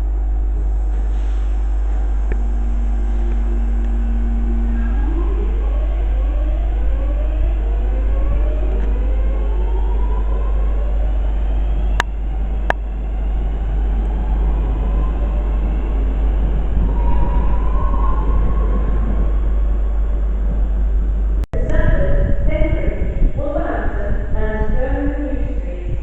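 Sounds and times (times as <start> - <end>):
train motor whine rising: 0.0 - 21.4
train rumble: 0.0 - 26.0.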